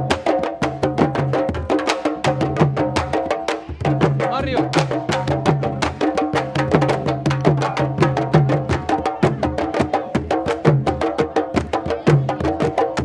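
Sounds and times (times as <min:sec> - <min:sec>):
hand drums playing: 0:00.0 - 0:13.0.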